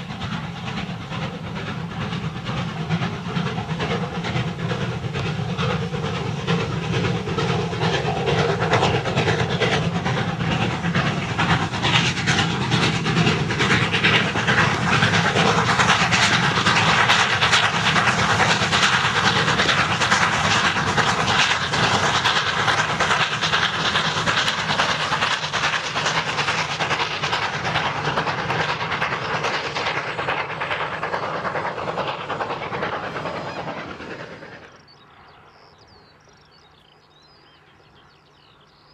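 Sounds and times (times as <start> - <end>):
steam hissing: 0.0 - 35.0
train clattering past: 0.0 - 38.9.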